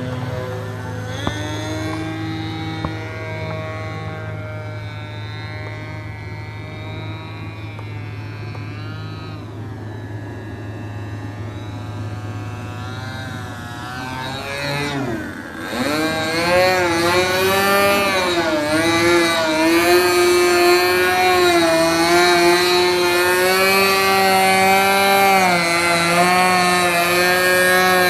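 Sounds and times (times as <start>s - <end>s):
model airplane engine: 0.0s - 28.0s.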